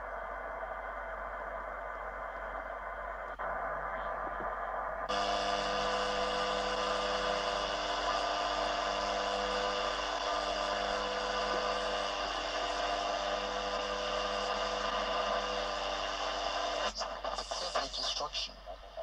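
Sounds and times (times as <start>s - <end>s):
hum-like tones: 0.0s - 19.0s
radio static hiss: 0.0s - 19.0s
radio broadcast speech: 3.4s - 19.0s.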